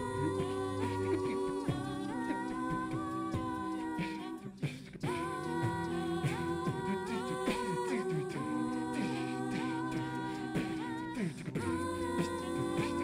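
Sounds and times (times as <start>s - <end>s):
low vocal bass line: 0.0s - 13.0s
mouth percussion beat: 0.0s - 13.0s
vocal group singing held chords: 0.0s - 13.0s.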